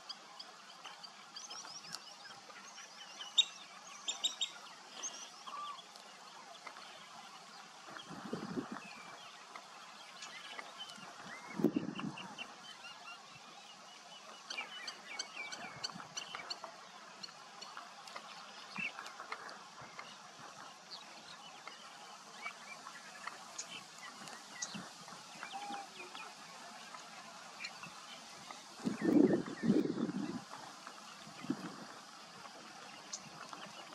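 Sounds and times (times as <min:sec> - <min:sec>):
small birds chirping: 0:00.0 - 0:33.9
steady outdoor hiss: 0:00.0 - 0:33.9.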